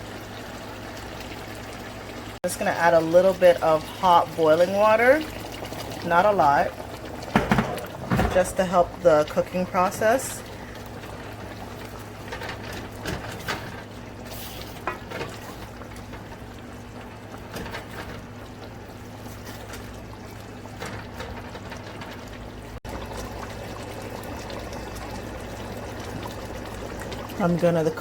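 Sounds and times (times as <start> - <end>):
water pouring into a pot: 0.0 - 28.0.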